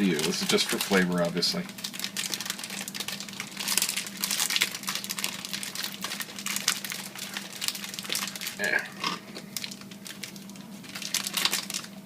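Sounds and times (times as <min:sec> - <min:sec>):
dry dough crackling rattle: 0:00.0 - 0:12.0.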